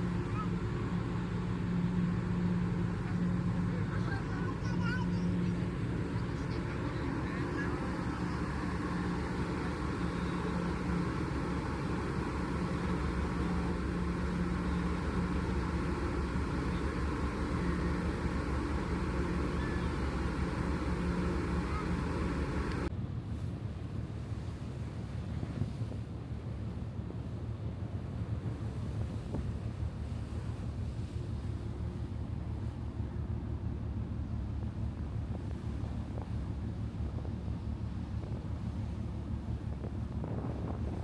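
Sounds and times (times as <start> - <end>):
engine drone with low rumble: 0.0 - 41.0.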